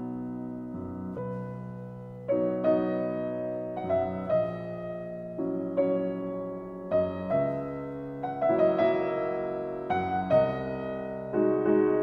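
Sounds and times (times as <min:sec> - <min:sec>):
slow piano chords ringing: 0:00.0 - 0:12.0.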